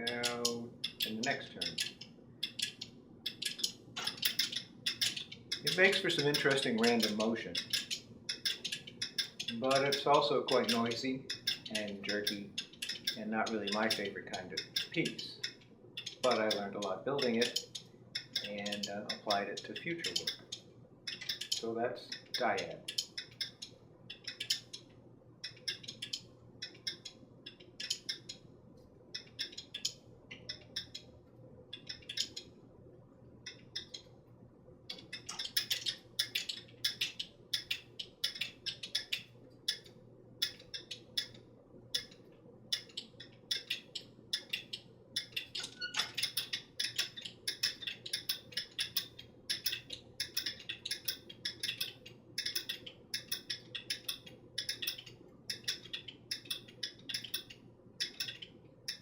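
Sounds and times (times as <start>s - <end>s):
wooden sculpture clicking and knocking: 0.0s - 28.4s, 29.2s - 31.1s, 31.7s - 32.5s, 34.9s - 41.4s, 42.0s - 59.0s
faint steady hum: 0.0s - 59.0s.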